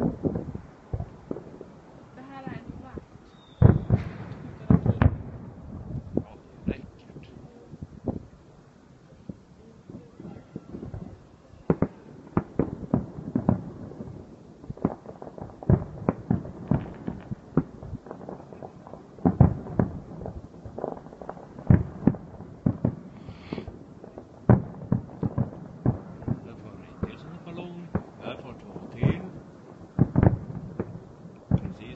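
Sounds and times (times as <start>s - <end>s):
firework shells bursting: 3.0s - 8.3s, 9.3s - 31.9s.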